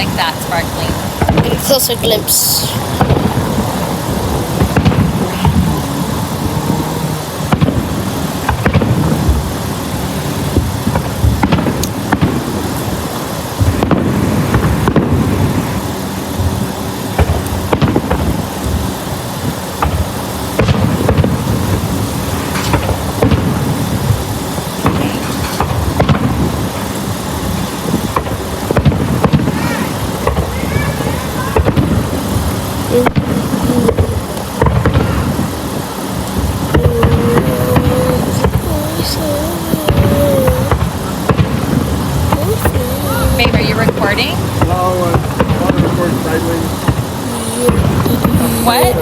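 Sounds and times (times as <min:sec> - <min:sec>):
fireworks booming and banging: 0:00.0 - 0:49.0.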